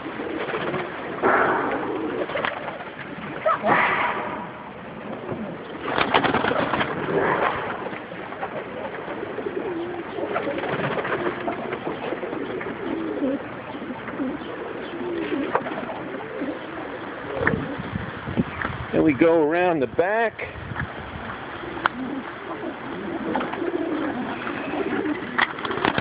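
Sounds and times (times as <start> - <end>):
pigeons cooing: 0.0 - 19.2, 20.4 - 26.0.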